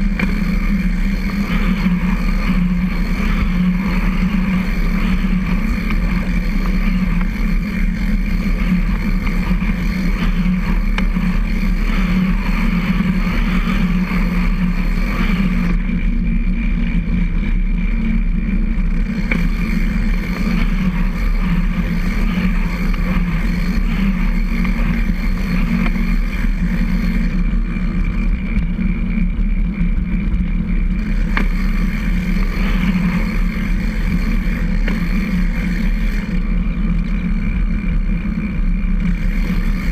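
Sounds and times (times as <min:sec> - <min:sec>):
tyres and drivetrain humming: 0:00.0 - 0:39.9.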